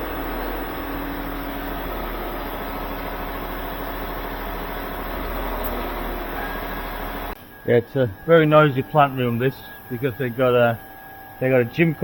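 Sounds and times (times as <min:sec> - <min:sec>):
pumps humming and hissing: 0:00.0 - 0:12.0.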